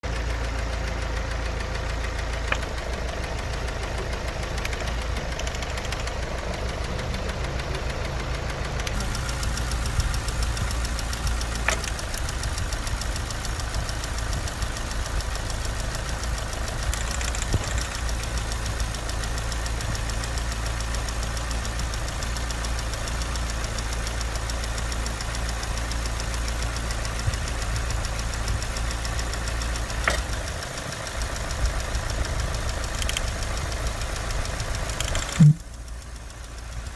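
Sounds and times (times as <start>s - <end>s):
engine running with fast knocking: 0.0s - 36.9s.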